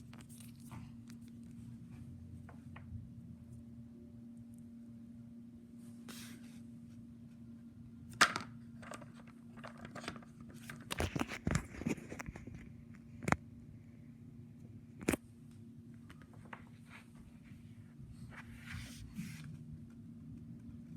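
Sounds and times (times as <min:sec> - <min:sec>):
faint steady hum: 0:00.0 - 0:20.9.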